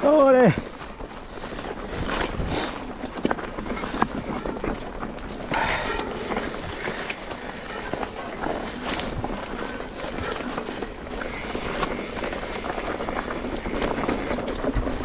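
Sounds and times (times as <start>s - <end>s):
bike tyres rolling: 0.0s - 15.0s
wind: 0.0s - 15.0s.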